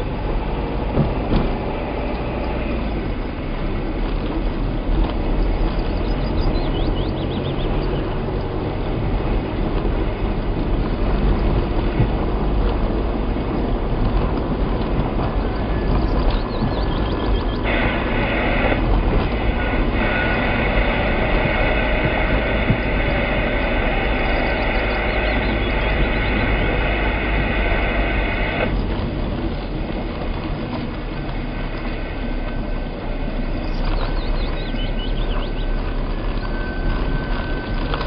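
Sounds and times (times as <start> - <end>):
car engine and tyre rumble: 0.0 - 38.0
high steady whine: 0.0 - 38.0.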